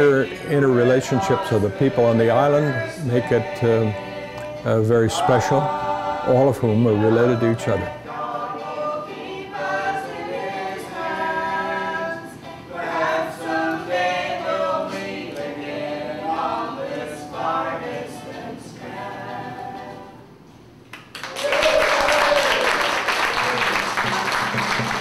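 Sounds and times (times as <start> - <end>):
group singing a hymn unaccompanied: 0.0 - 20.4.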